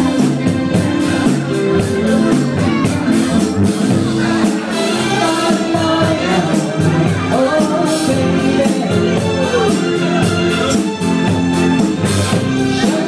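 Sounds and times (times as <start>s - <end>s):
person singing: 0.0s - 11.5s, 12.2s - 13.0s
guitar: 0.0s - 13.0s
steady drum beat: 0.0s - 13.0s.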